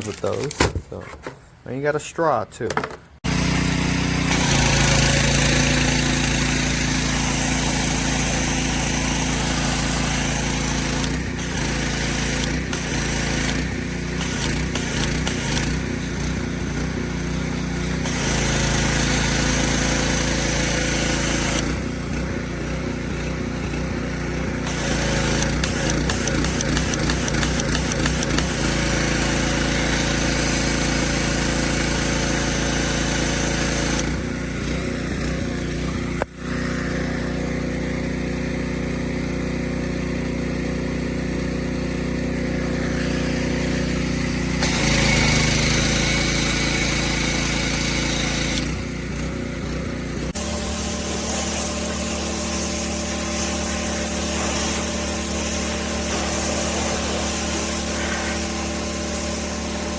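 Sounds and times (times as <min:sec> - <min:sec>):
pressure washer running: 0:03.2 - 0:59.9.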